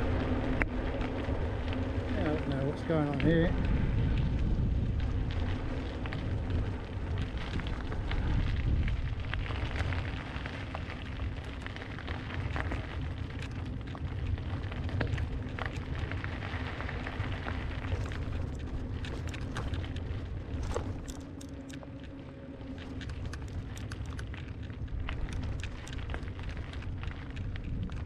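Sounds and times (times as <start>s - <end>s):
bicycle tyres crunching on gravel: 0.0s - 28.0s
wind buffeting microphone: 0.0s - 28.0s.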